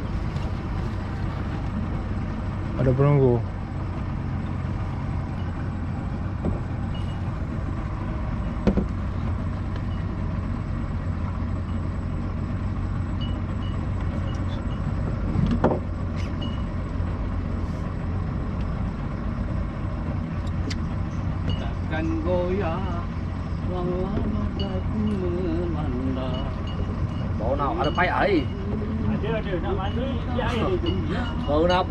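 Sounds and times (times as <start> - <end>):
boat engine humming: 0.0 - 31.9.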